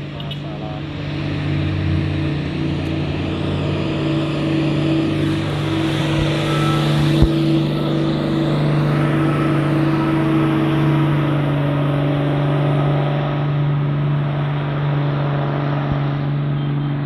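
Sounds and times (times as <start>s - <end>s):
heavy vehicle engine droning: 0.0s - 17.0s.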